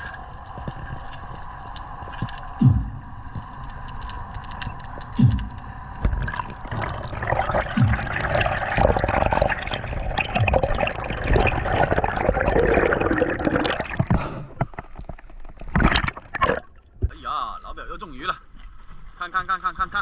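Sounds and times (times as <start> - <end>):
sea water sloshing and gurgling: 0.0 - 17.1.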